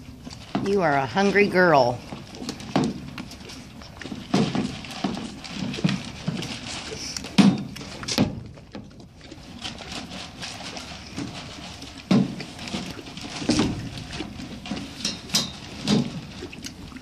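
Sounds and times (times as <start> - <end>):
horse crunching feed: 0.0 - 17.0.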